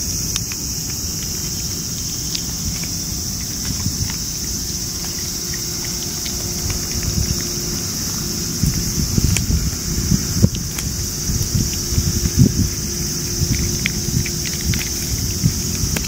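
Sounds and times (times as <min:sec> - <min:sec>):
cat chewing and licking food: 0:00.0 - 0:16.0
cicada chorus drone: 0:00.0 - 0:16.0
wind rumbling on microphone: 0:00.0 - 0:16.0.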